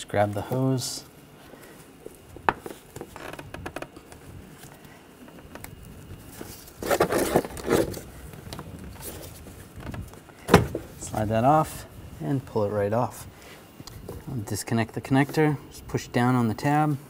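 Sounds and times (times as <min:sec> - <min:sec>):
hose scraping: 0:00.0 - 0:15.6.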